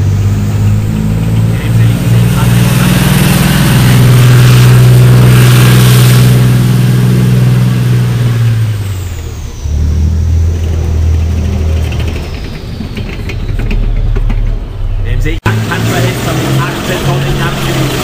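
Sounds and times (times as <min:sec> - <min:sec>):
tank diesel engine running: 0:00.0 - 0:18.0
tank track clatter: 0:00.0 - 0:18.0.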